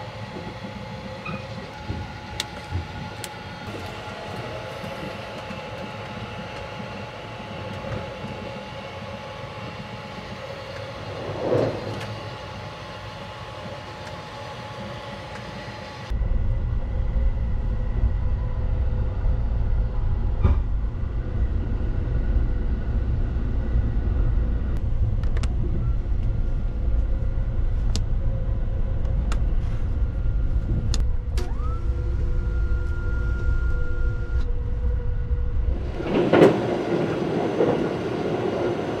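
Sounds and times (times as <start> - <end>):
train rumble from inside: 0.0 - 39.0.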